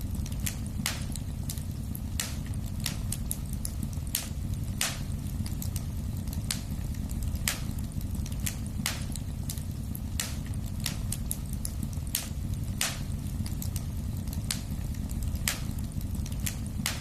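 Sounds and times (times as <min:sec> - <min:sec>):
burning logs crackling and popping: 0:00.0 - 0:17.0
flames rumbling: 0:00.0 - 0:17.0.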